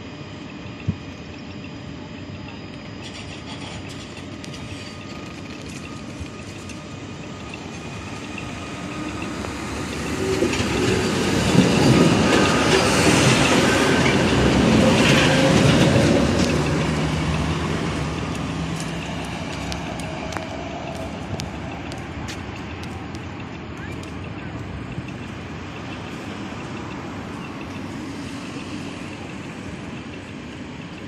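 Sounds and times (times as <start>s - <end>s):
thin steady whine: 0.0s - 31.0s
tram wheels rumbling on rails: 0.0s - 31.0s.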